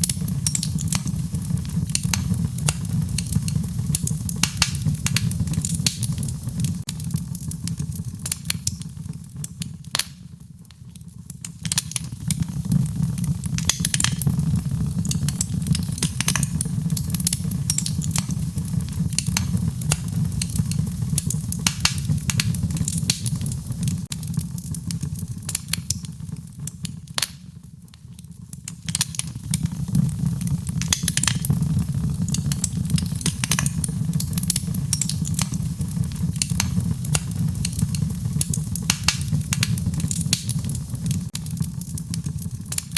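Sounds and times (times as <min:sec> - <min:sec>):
low rumble of flames: 0:00.0 - 0:42.9
wood fire crackling: 0:00.0 - 0:42.9.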